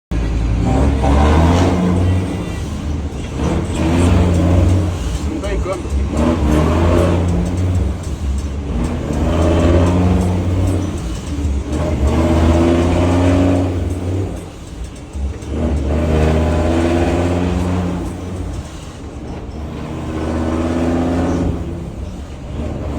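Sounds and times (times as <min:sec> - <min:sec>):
truck engine revving: 0:00.0 - 0:22.9.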